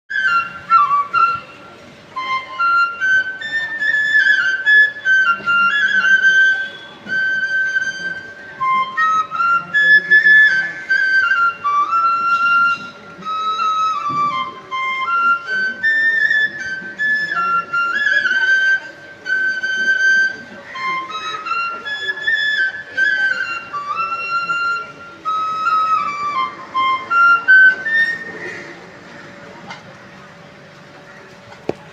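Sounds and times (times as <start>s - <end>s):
bamboo flute melody: 0.1s - 29.8s.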